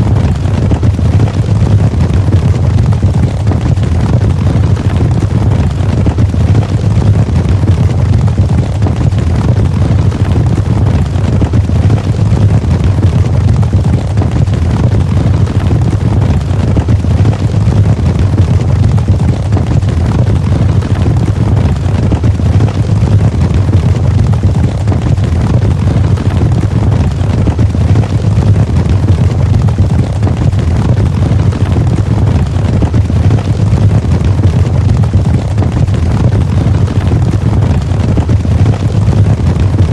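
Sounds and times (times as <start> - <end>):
galloping horse hooves: 0.1 - 35.8.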